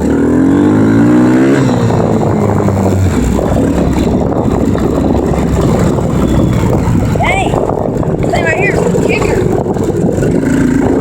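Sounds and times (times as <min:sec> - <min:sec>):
dirt bike engine revving: 0:00.0 - 0:11.0
rough rumble of motorbike riding: 0:00.0 - 0:11.0.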